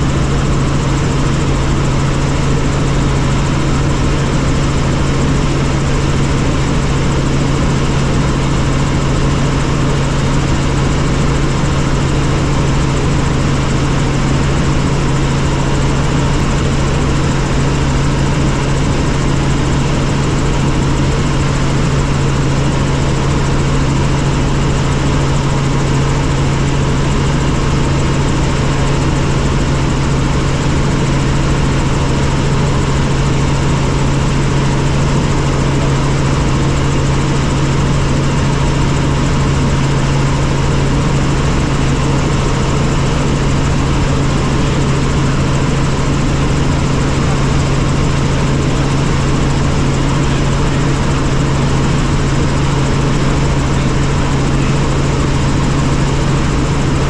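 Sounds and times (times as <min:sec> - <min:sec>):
helicopter engine and rotor noise: 0:00.0 - 0:57.0.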